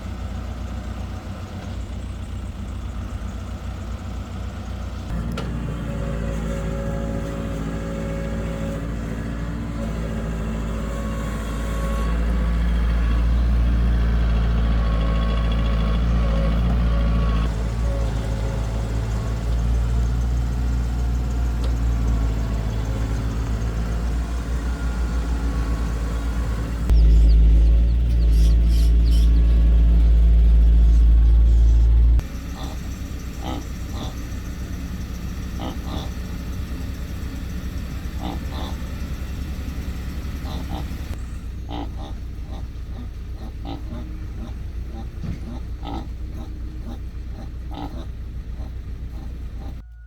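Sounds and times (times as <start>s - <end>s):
heavy machinery diesel engine: 0.0s - 50.0s.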